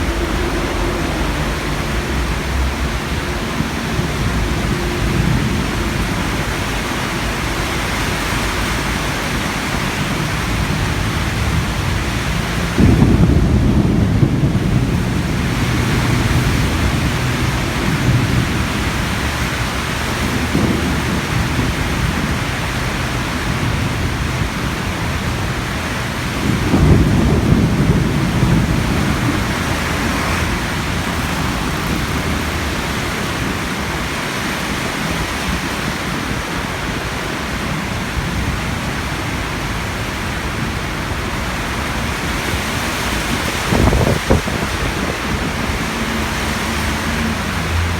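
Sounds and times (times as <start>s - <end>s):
heavy rain pouring: 0.0s - 47.9s
thunder rumbling: 0.0s - 47.9s.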